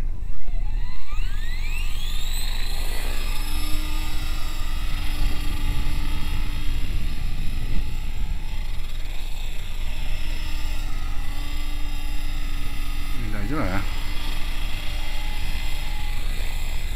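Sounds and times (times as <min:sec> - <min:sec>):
rc helicopter whine and rotor drone: 0:00.0 - 0:16.9
wind rumbling on microphone: 0:00.0 - 0:16.9.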